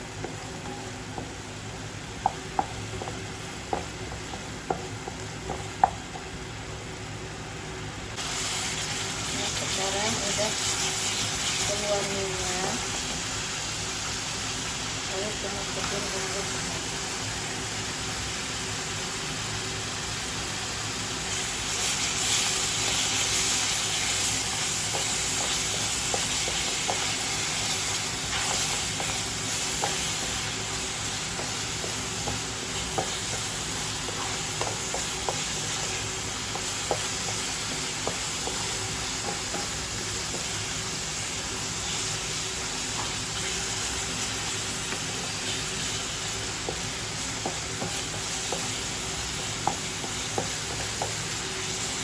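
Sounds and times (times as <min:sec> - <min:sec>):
spice paste sizzling in oil: 0:00.0 - 0:52.0.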